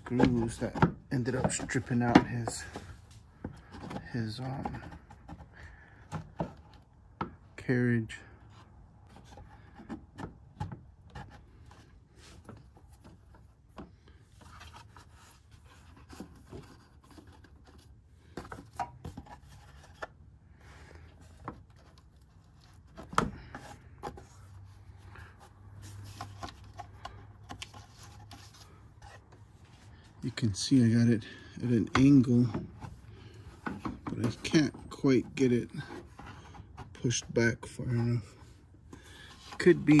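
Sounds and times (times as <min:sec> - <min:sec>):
hands rubbing plastic parts: 0:00.0 - 0:07.4, 0:08.4 - 0:30.3, 0:31.5 - 0:40.0.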